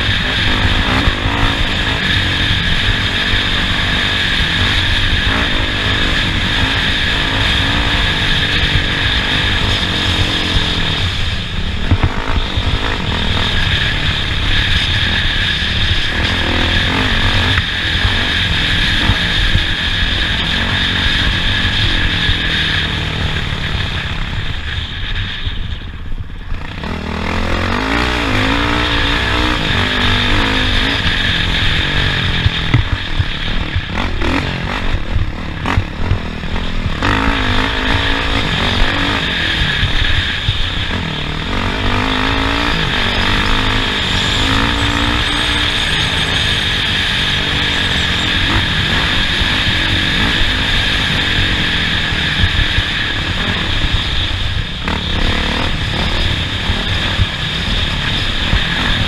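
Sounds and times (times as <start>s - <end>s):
off-road vehicle engine revving: 0.0s - 24.6s, 26.5s - 59.0s.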